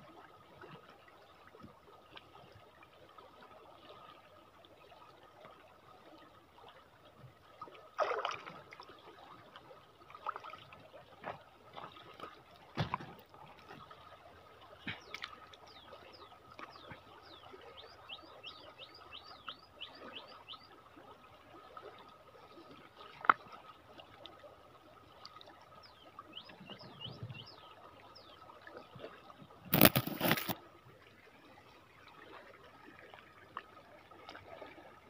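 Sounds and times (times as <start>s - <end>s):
river water splashing and trickling: 0.0s - 35.0s.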